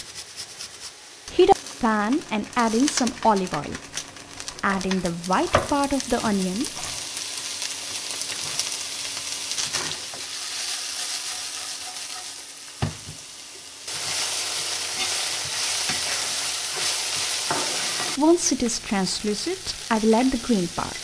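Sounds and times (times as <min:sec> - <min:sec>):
onion sizzling in oil: 0:00.1 - 0:21.0.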